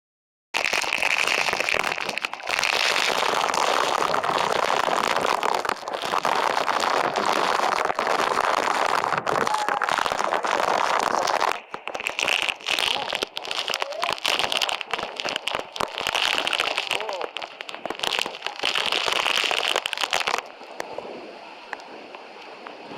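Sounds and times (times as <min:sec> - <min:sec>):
spray crackling on microphone: 0:00.6 - 0:20.5.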